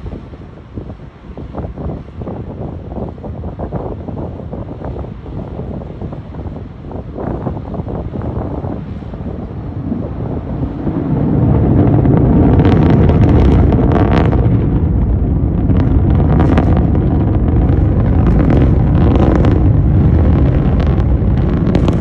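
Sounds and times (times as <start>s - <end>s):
rocket engine rumbling and crackling: 0.0s - 22.0s.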